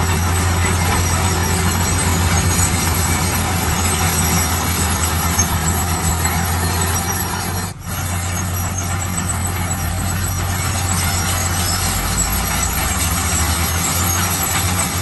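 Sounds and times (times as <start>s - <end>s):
construction machine engine running: 0.0s - 15.0s.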